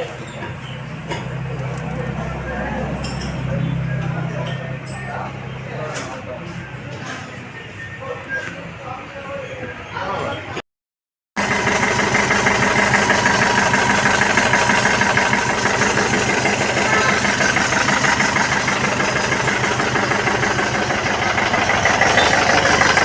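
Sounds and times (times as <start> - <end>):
diesel engine idling: 0.0 - 6.9, 11.4 - 23.0.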